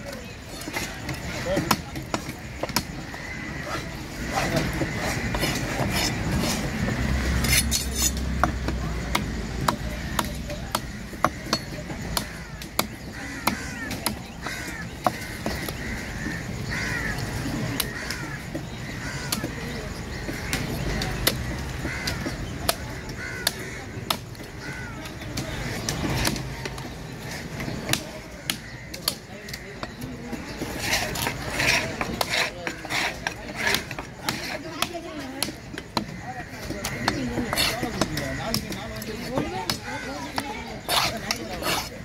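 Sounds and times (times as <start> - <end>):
crows cawing: 0.2 - 6.2, 8.4 - 26.4, 27.3 - 41.9.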